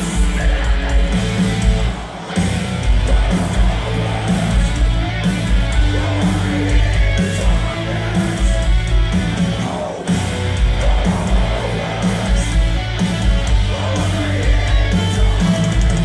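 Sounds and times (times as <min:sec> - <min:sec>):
live metal band playing: 0:00.0 - 0:16.0.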